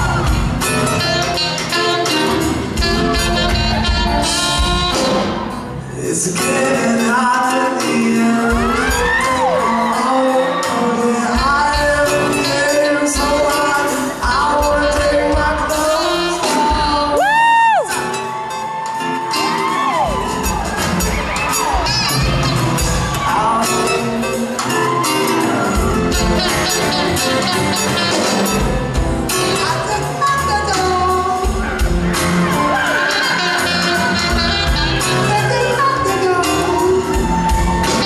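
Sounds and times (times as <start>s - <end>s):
audience screaming and whooping: 0.0s - 5.8s, 8.0s - 14.7s, 15.6s - 38.0s
live band with male singer: 0.0s - 38.0s.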